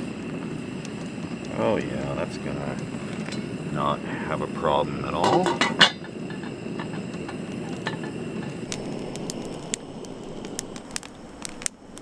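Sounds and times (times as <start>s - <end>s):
camp stove burner rushing: 0.0s - 12.0s.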